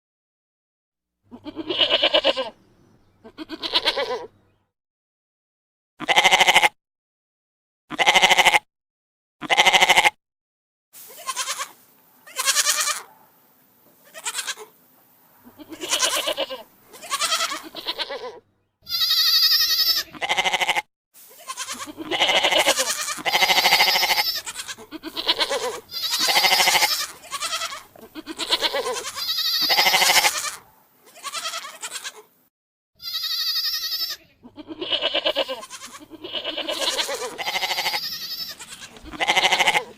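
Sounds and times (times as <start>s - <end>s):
goat bleating: 1.3s - 4.6s, 6.0s - 6.8s, 7.9s - 8.6s, 9.4s - 10.2s, 11.0s - 13.1s, 14.0s - 14.8s, 15.4s - 32.4s, 33.0s - 39.9s.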